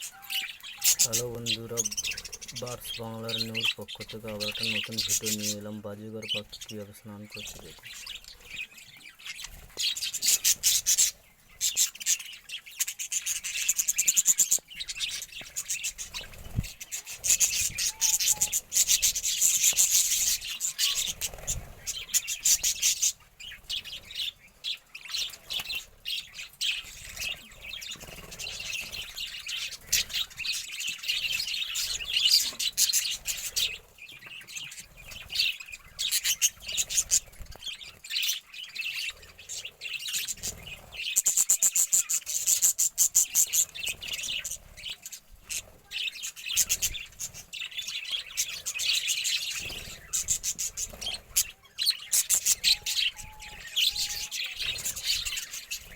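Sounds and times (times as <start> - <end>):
budgerigars chirping: 0.0 - 55.9.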